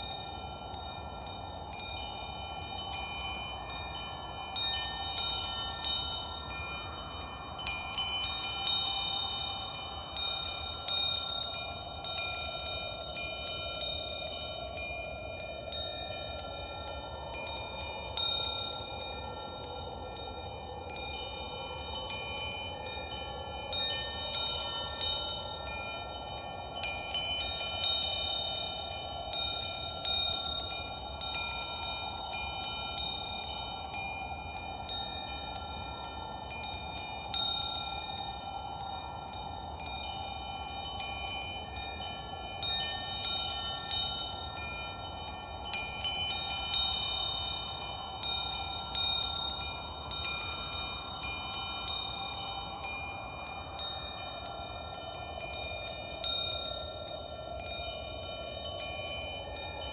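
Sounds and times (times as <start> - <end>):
soft steady wash: 0.0 - 59.9
wind chimes ringing: 0.0 - 59.9.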